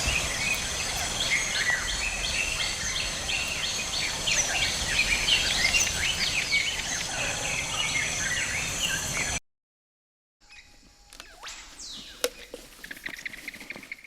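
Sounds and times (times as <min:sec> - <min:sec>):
birds chirping and calling: 0:00.0 - 0:09.4, 0:10.5 - 0:14.0
high insect drone: 0:00.0 - 0:09.4, 0:10.4 - 0:14.0.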